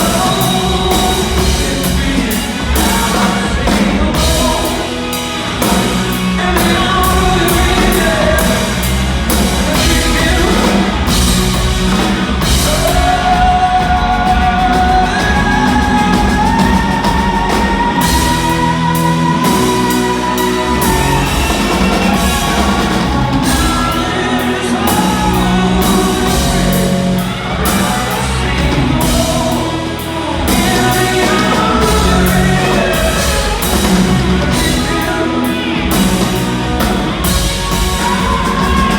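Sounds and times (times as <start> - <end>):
rock band playing: 0.0 - 38.9
singer holding wordless notes: 0.0 - 38.9.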